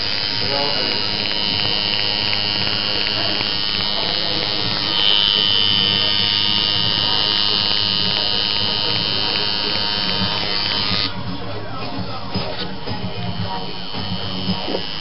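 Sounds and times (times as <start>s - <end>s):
tattoo machine buzzing: 0.0s - 11.4s, 12.0s - 15.0s.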